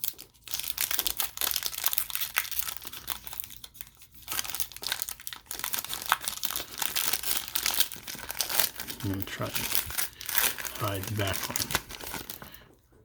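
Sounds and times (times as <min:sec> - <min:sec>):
wrapper crinkling and tearing: 0:00.0 - 0:12.7.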